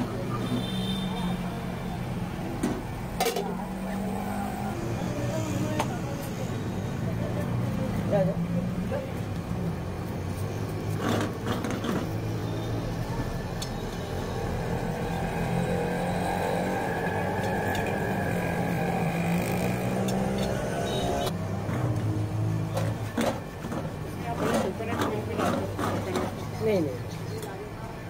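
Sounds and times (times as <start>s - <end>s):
engine-like hum: 0.0s - 27.7s.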